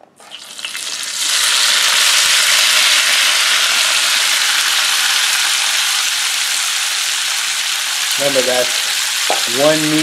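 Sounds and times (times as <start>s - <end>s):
onions sizzling in bacon grease: 0.3s - 10.0s.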